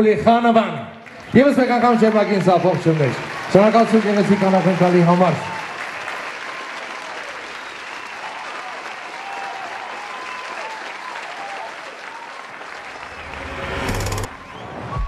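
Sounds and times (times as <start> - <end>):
crowd applauding: 1.0 - 15.0.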